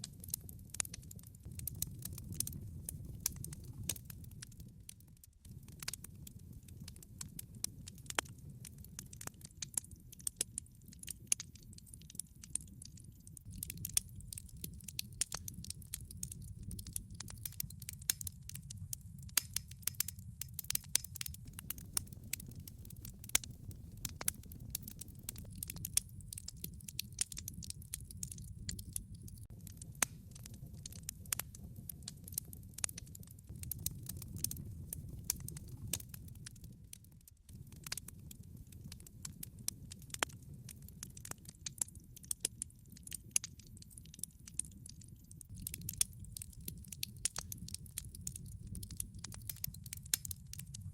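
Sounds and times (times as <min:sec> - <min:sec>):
burning wood popping: 0:00.0 - 0:50.9
low rumble of flames: 0:00.0 - 0:50.9.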